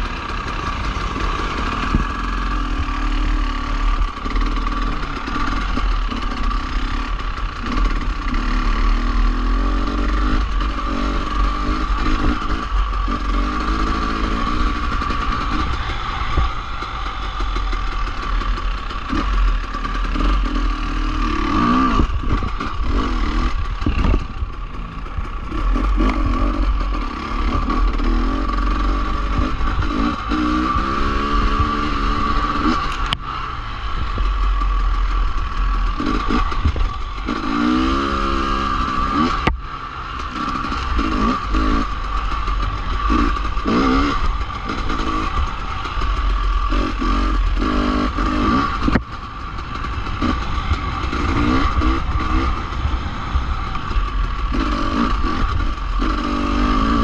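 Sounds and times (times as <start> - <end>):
dirt bike engine revving: 0.0 - 57.0
steady high whine: 0.0 - 57.0.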